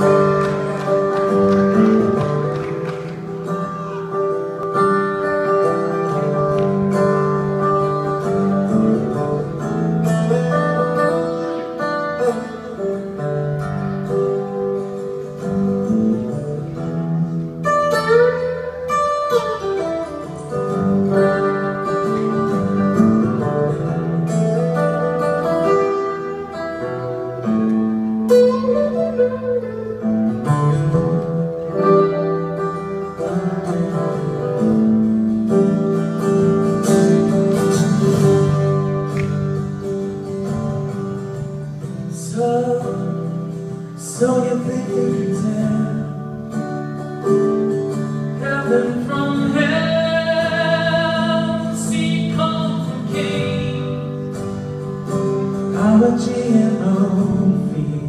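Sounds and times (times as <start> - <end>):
acoustic guitar melody: 0.0 - 58.0.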